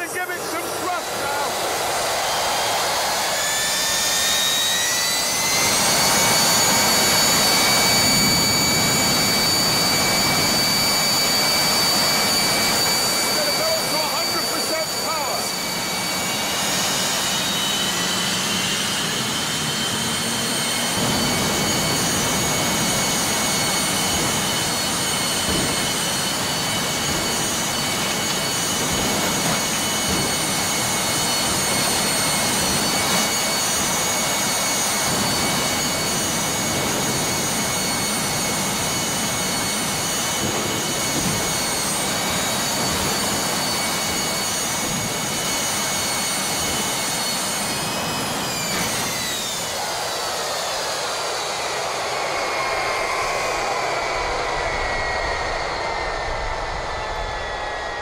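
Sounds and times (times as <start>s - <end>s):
jet engine blast: 0.0s - 58.0s
turbine whine: 0.0s - 58.0s.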